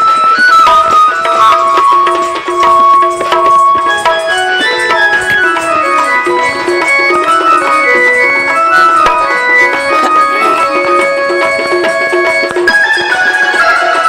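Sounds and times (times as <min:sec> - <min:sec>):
folk melody instrument: 0:00.0 - 0:14.0
hand drum rhythm: 0:00.0 - 0:14.0.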